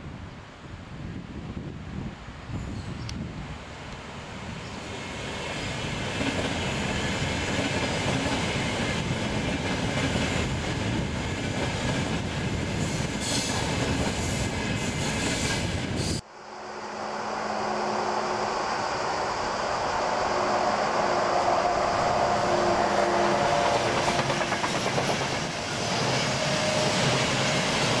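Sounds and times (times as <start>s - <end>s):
train wheels rumbling on rail: 2.5s - 16.3s, 17.2s - 28.0s
train approaching: 3.5s - 28.0s.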